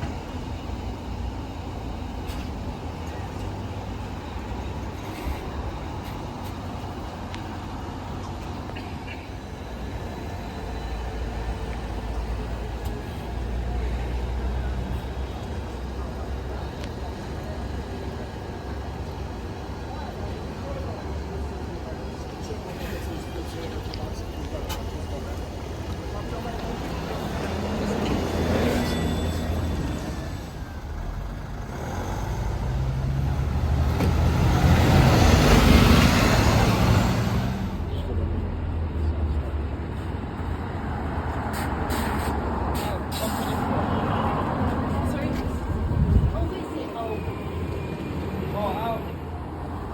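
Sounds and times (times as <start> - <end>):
bus engine rumbling: 0.0 - 49.9
road noise: 0.0 - 49.9
street traffic: 0.0 - 49.9.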